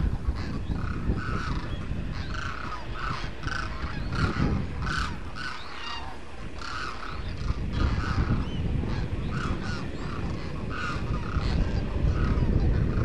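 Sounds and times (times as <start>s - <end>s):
cranes croaking calls: 0.0s - 13.0s.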